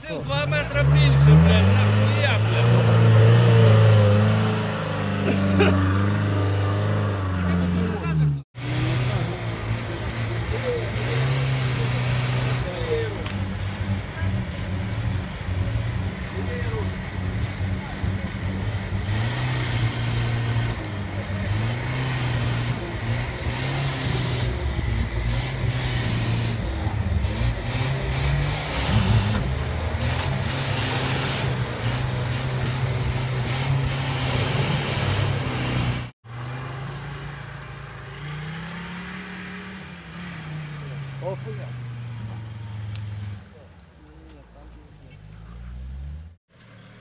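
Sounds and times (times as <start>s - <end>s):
engine revving unevenly: 0.0s - 47.0s
quieter engine revving: 0.1s - 47.0s.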